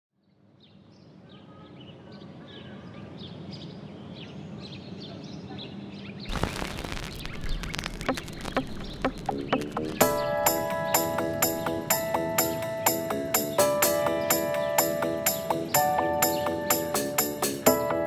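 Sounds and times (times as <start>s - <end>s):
birds chirping: 0.6s - 18.0s.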